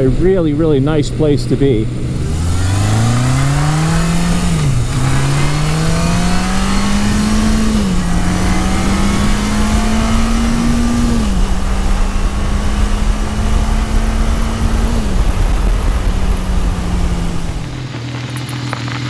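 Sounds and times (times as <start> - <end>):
motorcycle engine revving while riding: 0.0 - 17.9
wind rumble on microphone: 1.7 - 18.3.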